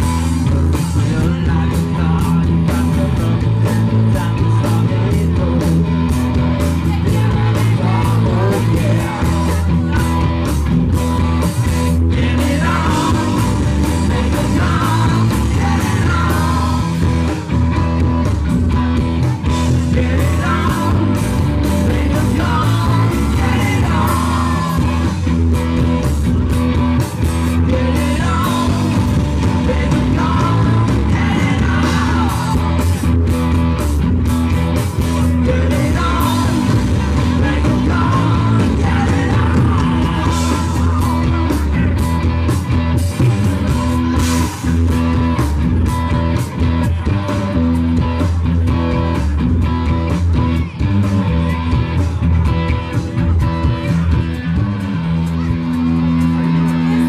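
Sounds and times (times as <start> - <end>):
man singing: 0.0 - 49.2
rock band playing: 0.0 - 57.0.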